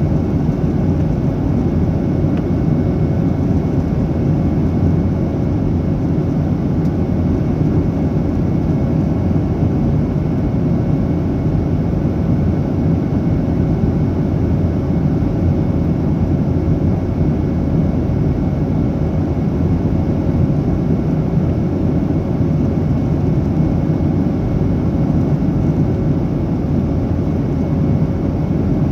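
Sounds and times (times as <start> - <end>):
aircraft cabin engine rumble: 0.0 - 28.9.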